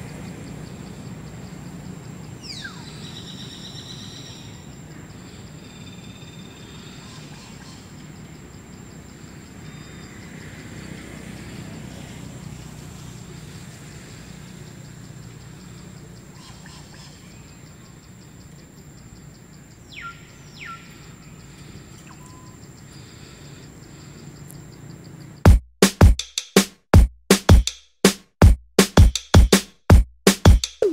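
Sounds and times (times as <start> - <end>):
distant road traffic rumble: 0.0 - 25.4.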